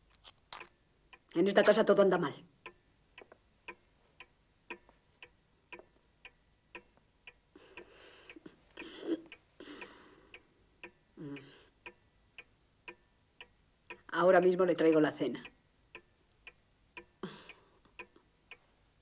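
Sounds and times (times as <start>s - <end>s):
pendulum wall clock ticking: 0.0s - 19.0s.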